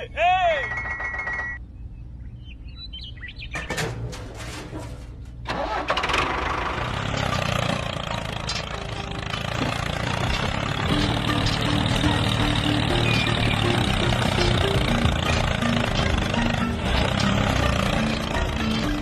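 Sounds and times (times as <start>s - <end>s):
vehicle engine cranking and running: 3.6s - 19.0s.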